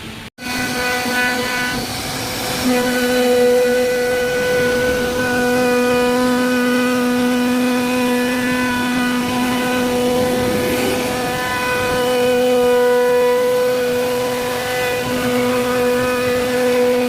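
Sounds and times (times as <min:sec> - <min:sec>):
cnc router spindle whining: 0:00.0 - 0:17.0
brief rasp: 0:00.4 - 0:17.0.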